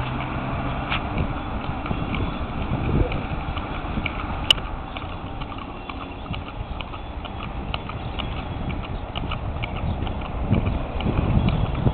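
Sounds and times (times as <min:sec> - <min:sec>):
horse hooves clip-clopping: 0:00.0 - 0:11.9
steady low rumble: 0:00.0 - 0:11.9.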